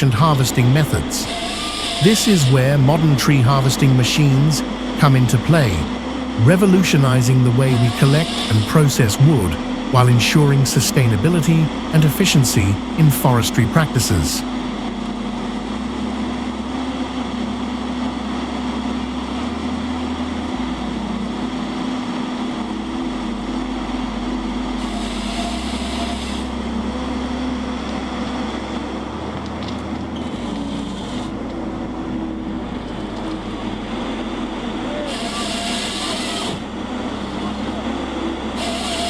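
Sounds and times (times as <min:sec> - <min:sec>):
heavy machine engine humming: 0:00.0 - 0:39.0.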